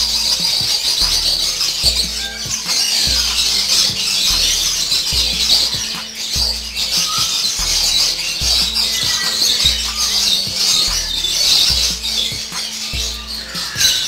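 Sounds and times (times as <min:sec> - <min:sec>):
background music with low beat: 0:00.0 - 0:14.0
cage birds chirping: 0:00.0 - 0:14.0.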